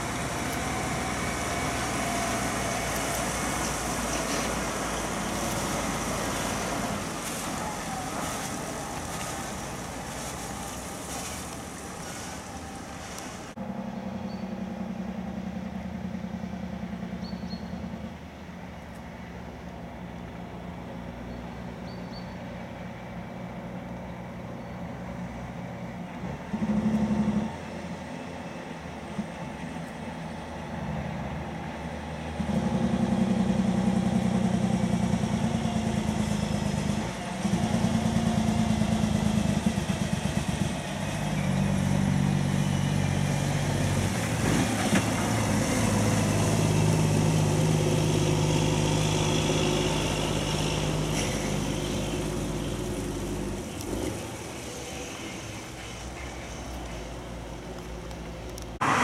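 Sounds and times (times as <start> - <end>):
truck diesel engine: 0.0 - 59.0.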